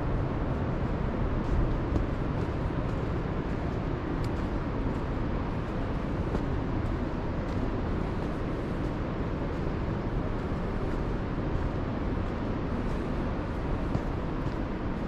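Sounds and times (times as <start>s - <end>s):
footsteps on dirt trail: 0.0s - 15.0s
steady low rumble: 0.0s - 15.0s.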